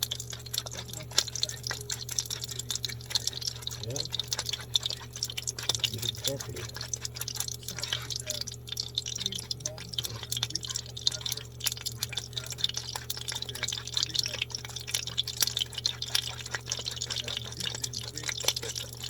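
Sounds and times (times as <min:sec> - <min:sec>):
whisk beating eggs in a bowl: 0:00.0 - 0:19.0.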